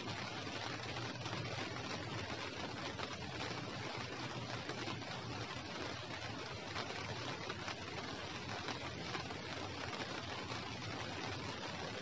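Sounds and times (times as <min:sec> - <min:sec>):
light rain hiss: 0:00.0 - 0:12.0.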